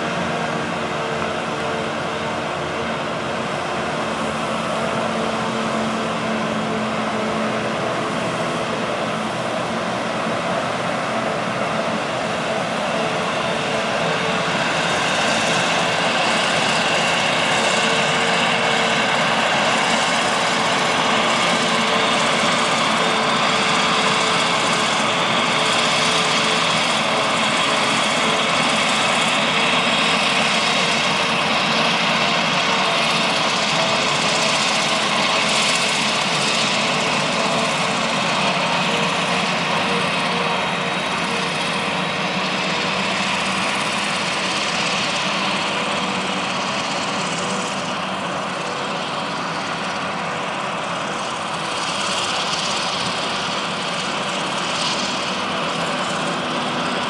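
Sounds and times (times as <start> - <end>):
forage harvester engine and cutterhead: 0.0 - 57.0
tractor hauling trailer: 0.0 - 57.0.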